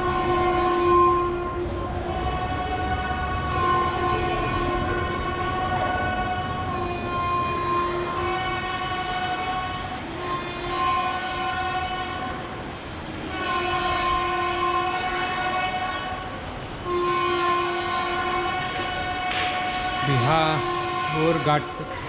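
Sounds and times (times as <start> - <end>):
train horn blasts: 0.0 - 22.0.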